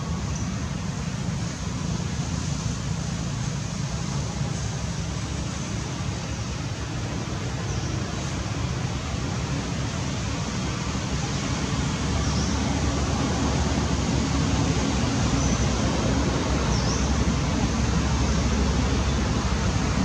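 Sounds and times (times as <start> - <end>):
low rumble with hiss: 0.0 - 20.0.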